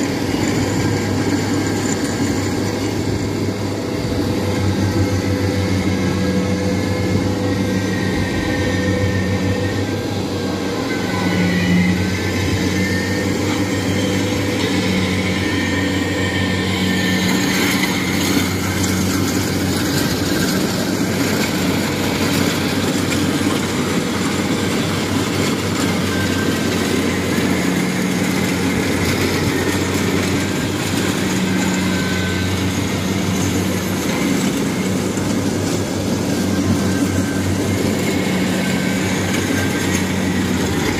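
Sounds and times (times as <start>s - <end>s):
diesel engine running under load: 0.0s - 40.9s
harvester machinery clattering: 0.0s - 40.9s.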